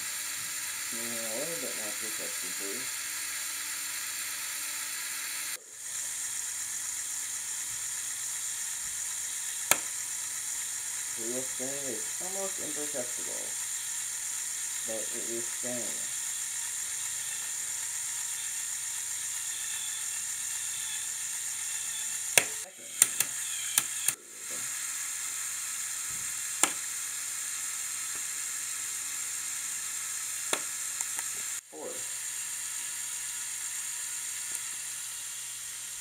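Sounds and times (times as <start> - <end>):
toy motor drivetrain whirring: 0.0 - 36.0.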